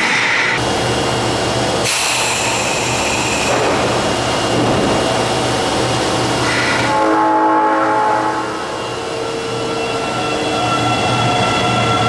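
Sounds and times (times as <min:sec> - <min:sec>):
subway train wheel noise: 0:00.0 - 0:12.0.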